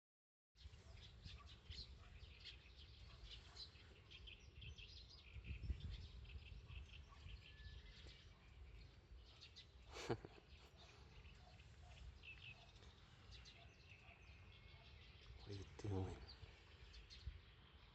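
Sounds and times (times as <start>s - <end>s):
small birds chirping: 0.6s - 17.9s.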